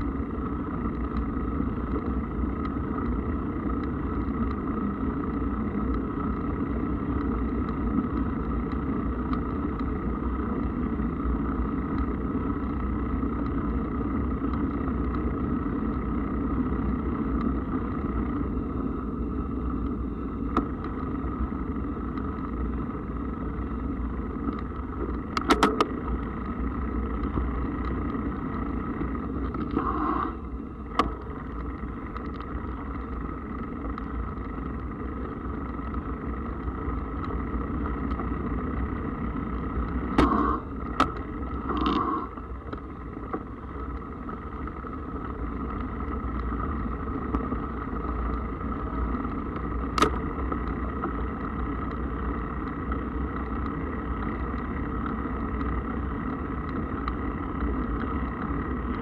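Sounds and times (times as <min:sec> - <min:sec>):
bike clicks and rattles: 0:00.0 - 0:59.0
bike tyres rumbling: 0:00.0 - 0:59.0.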